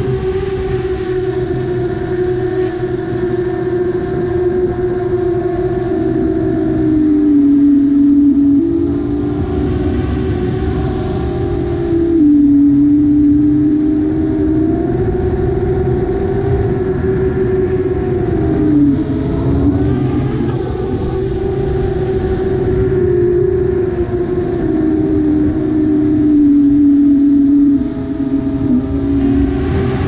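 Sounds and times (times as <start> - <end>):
drone motors buzzing: 0.0 - 30.0.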